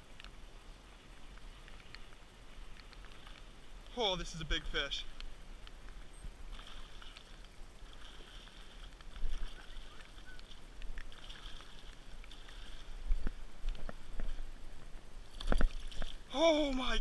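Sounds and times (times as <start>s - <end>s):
water splashing: 1.0s - 17.0s.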